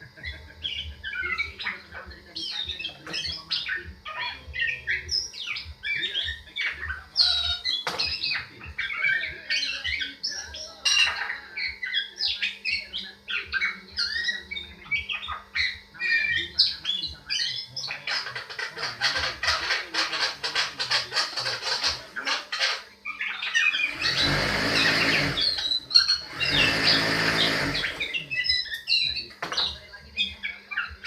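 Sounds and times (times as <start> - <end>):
myna calling: 0.0 - 31.0.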